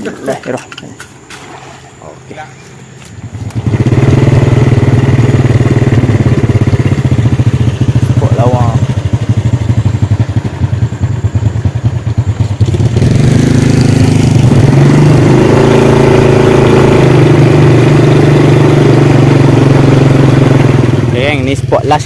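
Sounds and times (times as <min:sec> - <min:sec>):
small engine puttering: 0:00.0 - 0:22.0.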